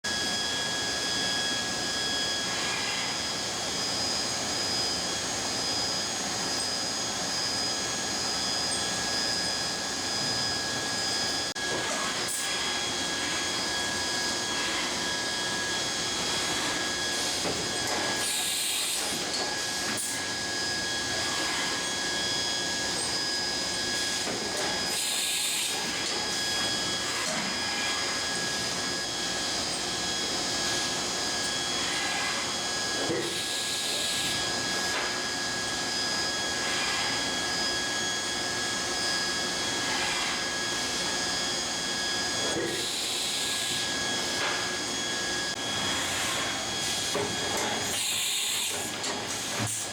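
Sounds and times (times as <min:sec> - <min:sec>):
high machine whines: 0:00.1 - 0:49.9.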